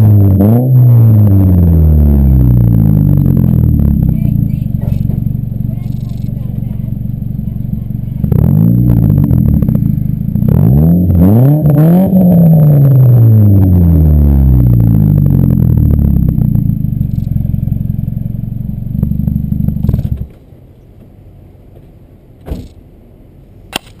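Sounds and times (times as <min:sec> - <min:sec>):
car engine revving and idling: 0:00.0 - 0:22.2.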